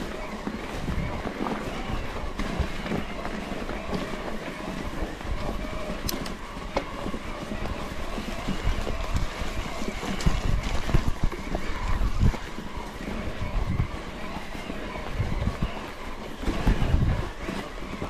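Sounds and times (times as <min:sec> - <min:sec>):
bike rattling and clicking: 0:00.0 - 0:18.0
wind buffeting microphone: 0:00.0 - 0:18.0.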